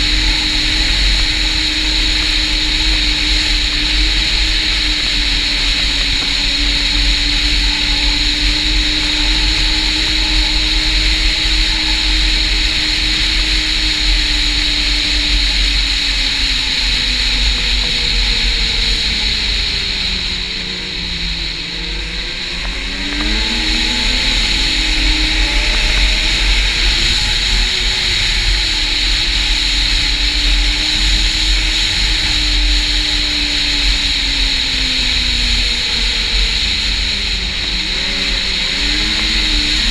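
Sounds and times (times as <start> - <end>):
snowmobile engine and track: 0.0 - 39.9.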